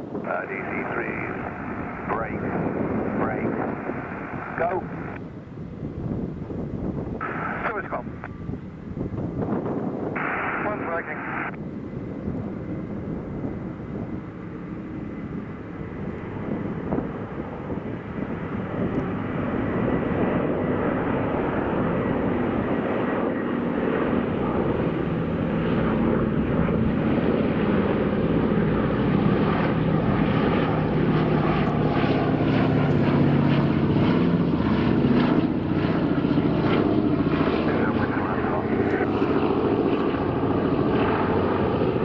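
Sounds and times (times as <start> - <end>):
propeller aircraft engines droning: 0.0 - 42.0.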